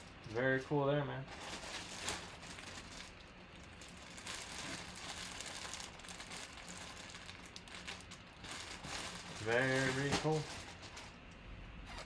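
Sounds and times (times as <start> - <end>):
plastic bag crinkling: 1.3 - 11.4.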